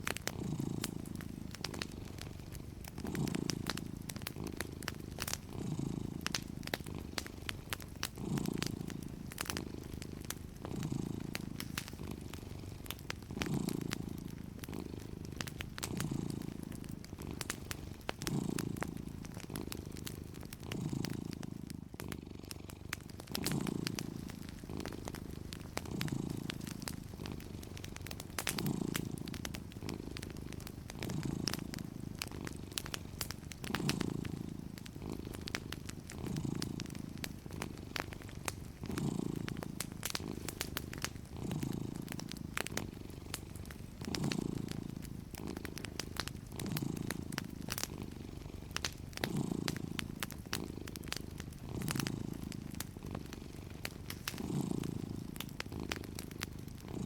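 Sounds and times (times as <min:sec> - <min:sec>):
cat purring: 0:00.0 - 0:57.0
fireplace crackling and popping: 0:00.0 - 0:57.0.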